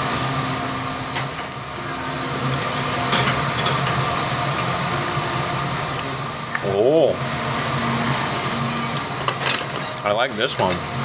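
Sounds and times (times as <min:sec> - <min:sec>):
restaurant background hiss and hum: 0:00.0 - 0:11.0.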